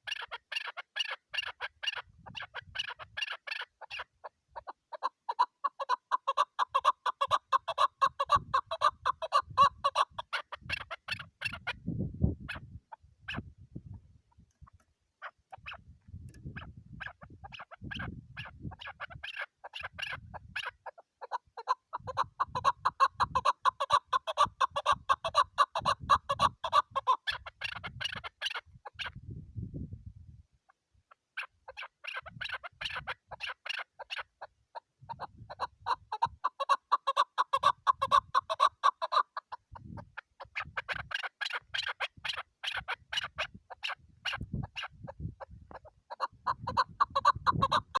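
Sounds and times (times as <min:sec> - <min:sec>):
partridge clucking calls: 0:00.0 - 0:11.8, 0:12.4 - 0:13.5, 0:14.3 - 0:29.2, 0:31.1 - 0:48.0.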